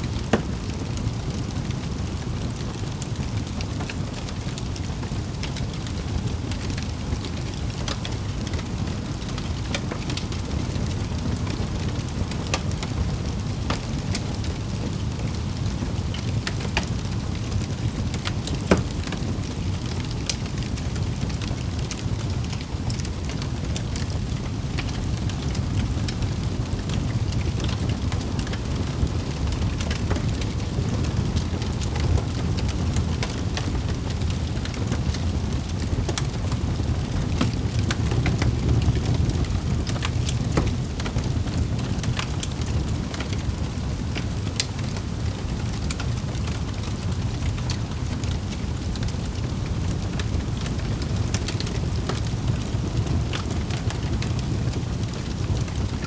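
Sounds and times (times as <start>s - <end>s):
fire crackles and pops: 0.0s - 56.0s
wood fire rumbling: 0.0s - 56.0s.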